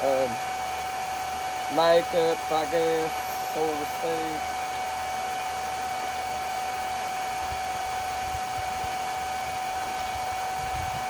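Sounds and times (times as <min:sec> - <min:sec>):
electric pump running: 0:00.0 - 0:11.0.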